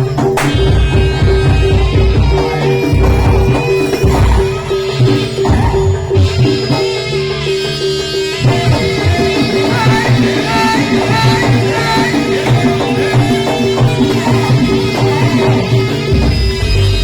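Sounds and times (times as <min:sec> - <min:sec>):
drums keeping a steady beat: 0:00.0 - 0:17.0
melodic instruments: 0:00.0 - 0:17.0.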